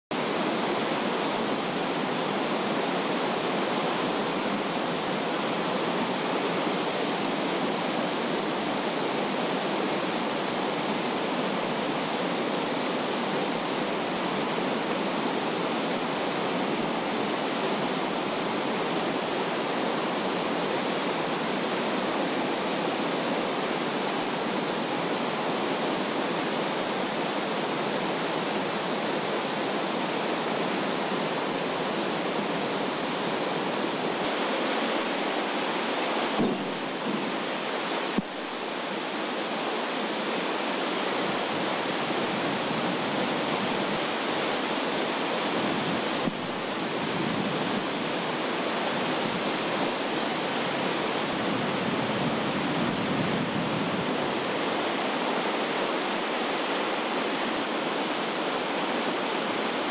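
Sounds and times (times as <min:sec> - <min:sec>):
river water rushing: 0:00.1 - 0:59.9.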